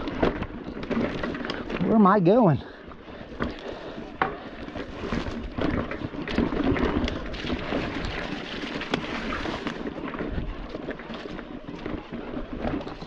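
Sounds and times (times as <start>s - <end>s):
bike knocking and rattling: 0.0s - 13.0s
tyres crunching on trail: 0.0s - 13.0s.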